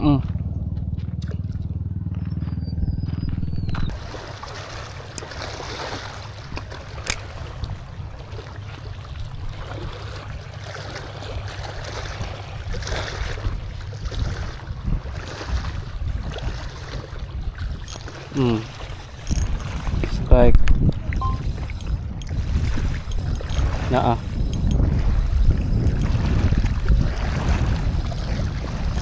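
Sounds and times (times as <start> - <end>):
wind rumbling on microphone: 0.0 - 29.0
water washing against rocks: 3.9 - 20.2, 21.7 - 29.0.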